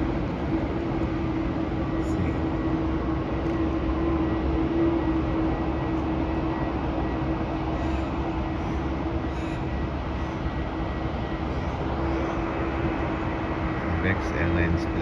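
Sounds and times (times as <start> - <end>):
distant jet airliner roar: 0.0 - 15.0.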